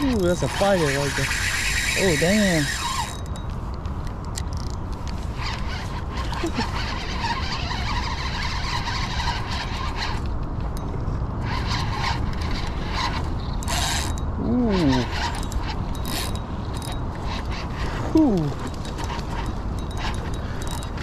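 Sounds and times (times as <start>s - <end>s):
fishing reel clicking: 0.0s - 3.4s, 4.3s - 10.4s, 11.4s - 21.0s
wind on microphone: 0.0s - 21.0s.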